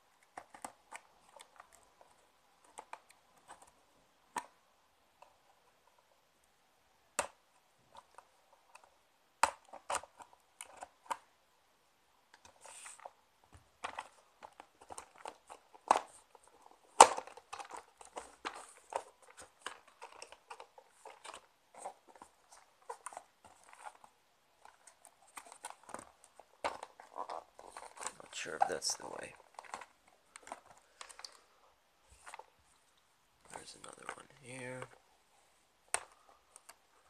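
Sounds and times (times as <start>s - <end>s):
plastic tray crinkling and crackling: 0.2s - 4.6s, 7.2s - 11.3s, 12.3s - 32.8s, 33.4s - 35.0s, 35.9s - 37.0s.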